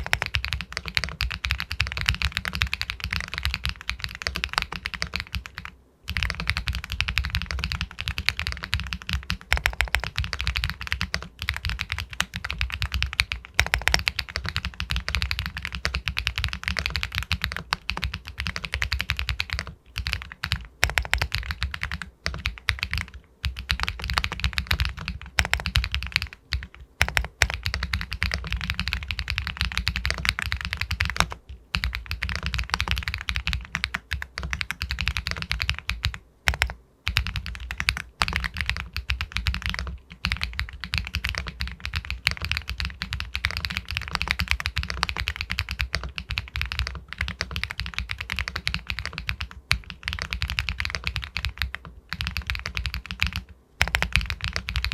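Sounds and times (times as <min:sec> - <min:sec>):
mechanical keyboard typing: 0:00.0 - 0:54.9.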